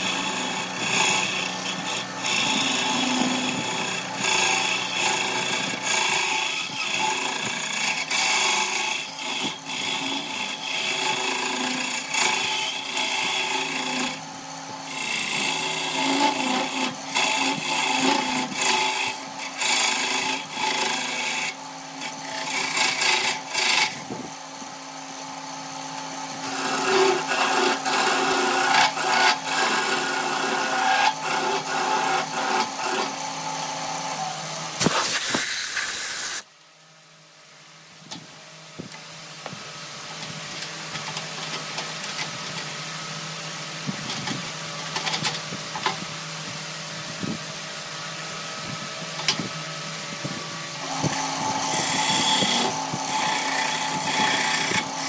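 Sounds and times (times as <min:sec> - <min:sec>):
turning tool scraping wood: 0:00.0 - 0:24.4, 0:25.8 - 0:36.4, 0:38.8 - 0:42.8, 0:48.4 - 0:55.0
wood lathe humming: 0:00.0 - 0:34.9, 0:39.4 - 0:55.0.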